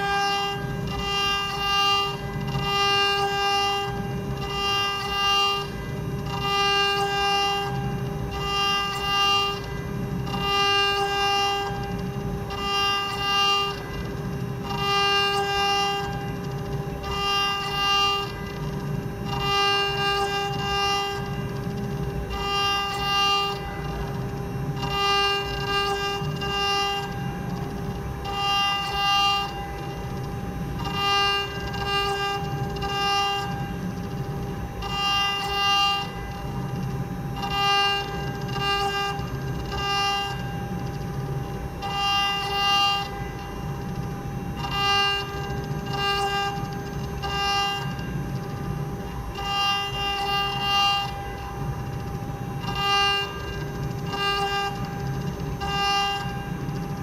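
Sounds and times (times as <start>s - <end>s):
router spindle whining: 0.0s - 57.0s.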